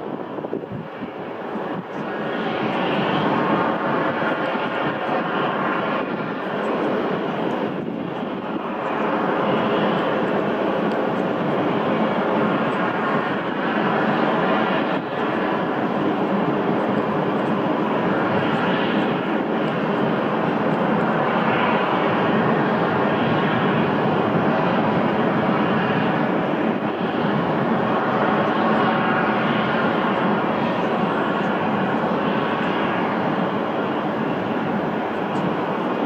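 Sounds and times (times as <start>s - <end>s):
distant jet engines rushing: 0.0s - 36.0s.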